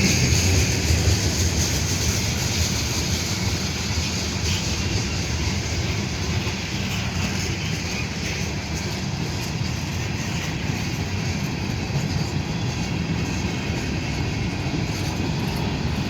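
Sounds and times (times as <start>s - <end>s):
hissing rail noise: 0.0s - 16.0s
train rumbling past: 0.0s - 16.0s.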